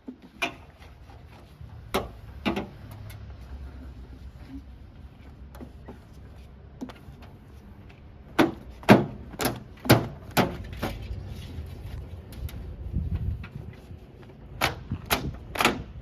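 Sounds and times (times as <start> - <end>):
diesel machinery rumbling: 0.3 - 16.0.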